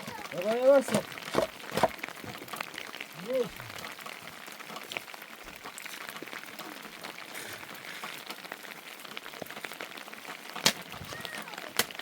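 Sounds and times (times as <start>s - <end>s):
rain drops pattering: 0.0s - 12.0s.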